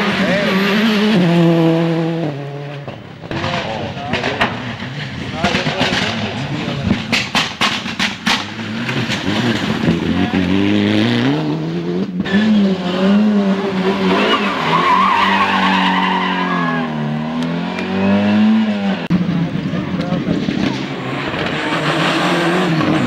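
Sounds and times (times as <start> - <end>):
rally car engines at full throttle: 0.0 - 23.0.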